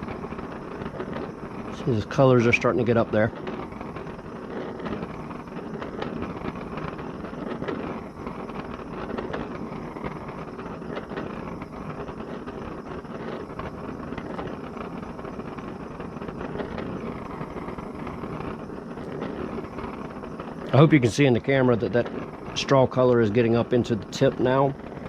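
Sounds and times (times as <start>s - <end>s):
forge roaring: 0.0s - 25.0s.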